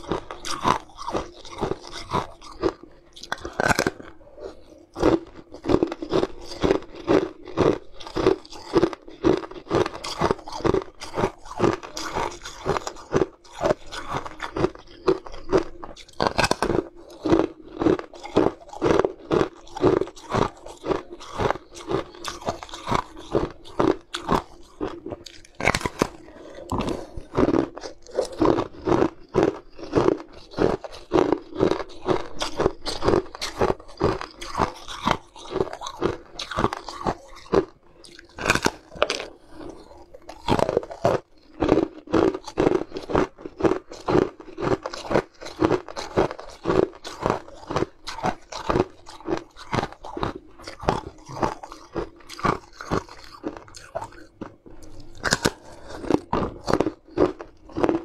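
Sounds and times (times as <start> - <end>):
crunching and chewing hard candy: 0.0 - 58.0.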